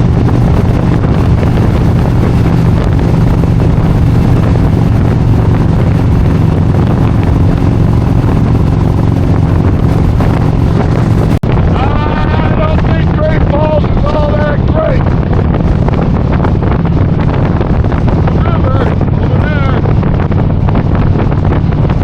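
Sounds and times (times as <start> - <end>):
motorcycle engine cruising: 0.0 - 22.0
wind buffeting microphone: 0.0 - 22.0.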